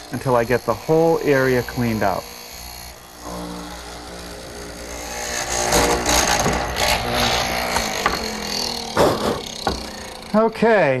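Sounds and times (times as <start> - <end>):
mortising machine cutting wood: 0.0 - 11.0.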